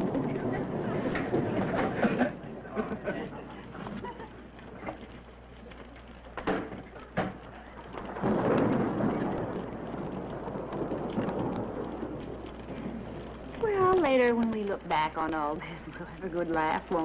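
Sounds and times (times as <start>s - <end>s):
rumble of thunder: 0.0s - 17.0s
steady rain: 0.0s - 17.0s.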